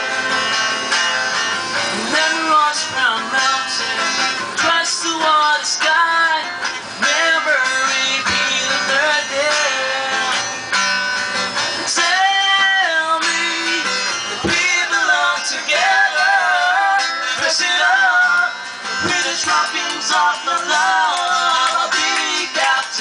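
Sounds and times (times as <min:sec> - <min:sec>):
acoustic guitar: 0:00.0 - 0:23.0
man singing: 0:01.9 - 0:10.5, 0:11.8 - 0:23.0
second person singing: 0:02.0 - 0:10.4, 0:11.8 - 0:23.0.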